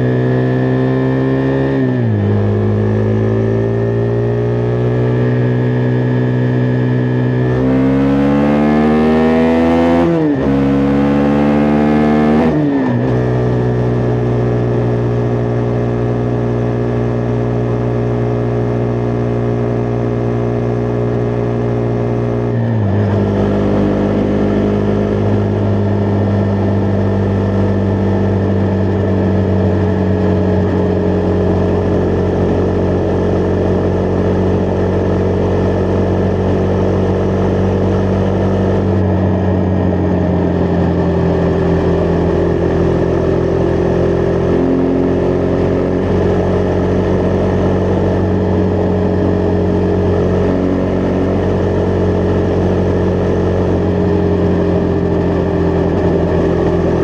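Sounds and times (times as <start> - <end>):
motorcycle engine revving and shifting: 0.0 - 57.0.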